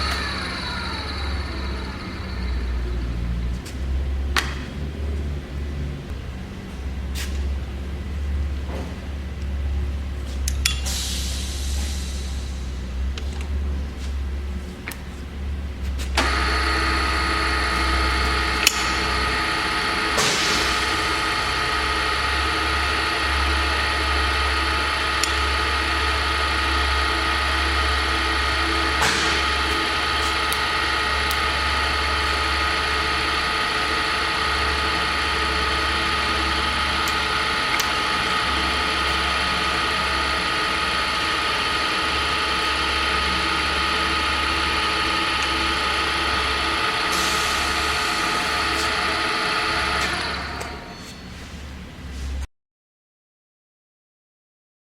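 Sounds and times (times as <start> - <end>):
drill press whining: 0.0 - 52.4.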